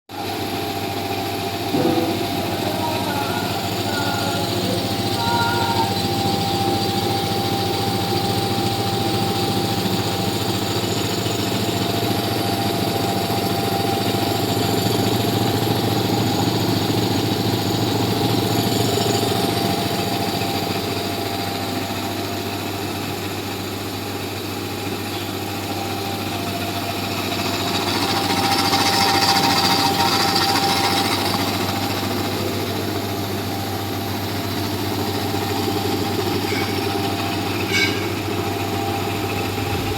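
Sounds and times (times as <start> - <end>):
air compressor humming: 0.1 - 39.9
compressor pump chatter: 0.1 - 39.9.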